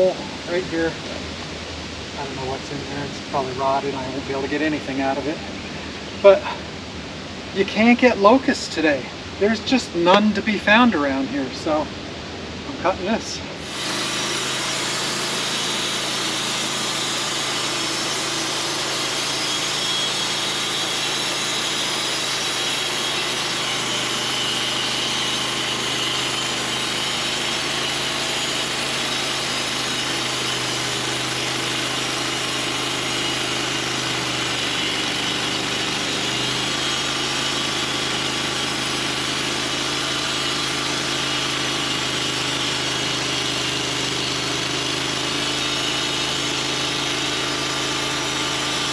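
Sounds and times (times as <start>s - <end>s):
sawmill cutting log: 0.0s - 12.0s, 12.7s - 48.9s.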